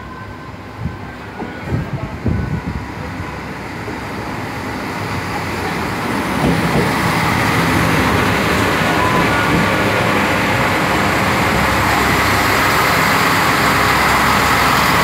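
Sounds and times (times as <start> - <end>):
diesel railcar engines: 0.0 - 15.0
train wheels on rails: 0.6 - 15.0.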